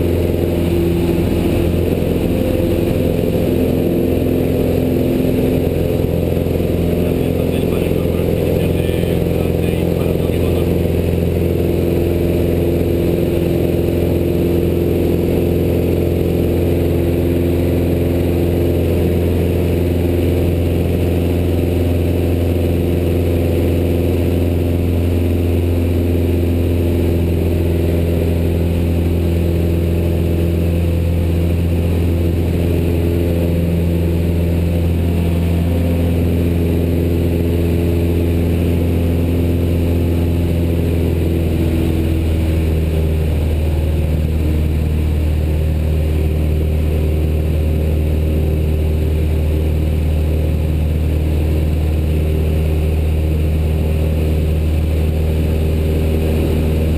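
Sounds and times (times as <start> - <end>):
light aircraft engine droning: 0.0 - 56.9.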